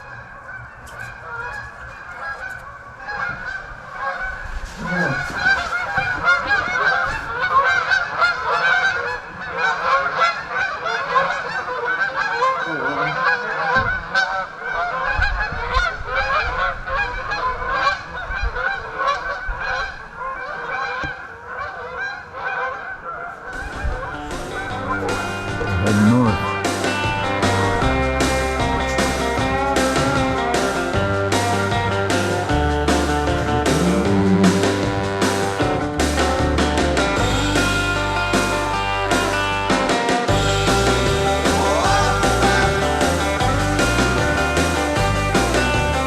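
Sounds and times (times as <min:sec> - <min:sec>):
geese honking: 0:00.0 - 0:46.0.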